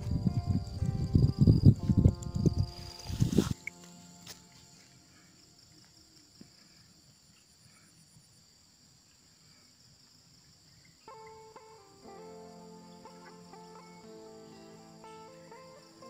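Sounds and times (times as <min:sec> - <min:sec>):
faint insect chirring: 0:00.0 - 0:16.0.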